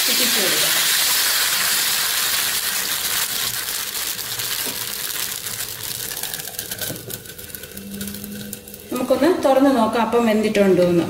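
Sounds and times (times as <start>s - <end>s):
batter sizzling in a hot pan: 0.0s - 9.9s.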